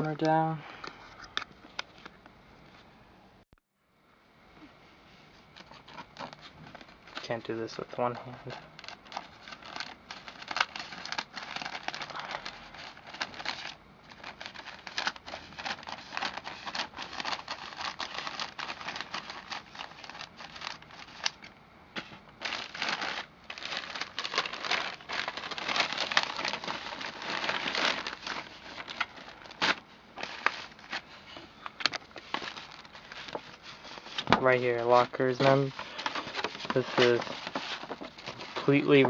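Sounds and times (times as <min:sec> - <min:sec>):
package wrapping crinkling: 0:05.5 - 0:39.0
wrapping tearing: 0:05.6 - 0:39.0.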